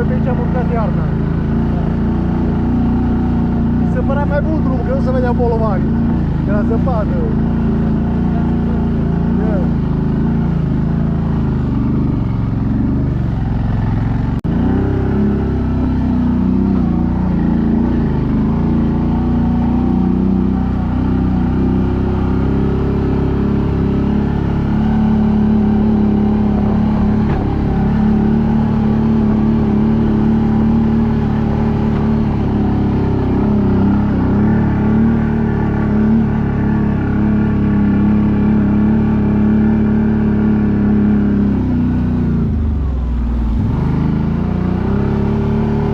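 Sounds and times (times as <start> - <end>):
atv engine under load: 0.0 - 45.9.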